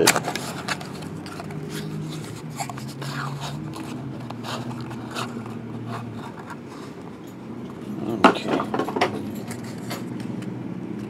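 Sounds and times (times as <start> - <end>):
trading cards being handled: 0.0 - 10.6.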